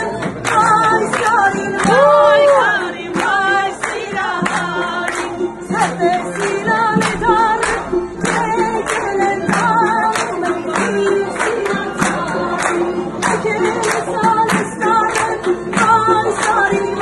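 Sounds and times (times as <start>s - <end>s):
crowd clapping along: 0.0s - 17.0s
music: 0.0s - 17.0s
woman singing with vibrato: 0.0s - 17.0s.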